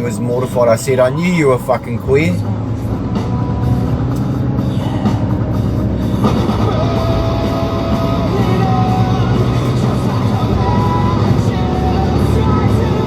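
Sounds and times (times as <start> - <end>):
music playing: 0.0 - 13.0
truck engine rumbling: 0.0 - 13.0.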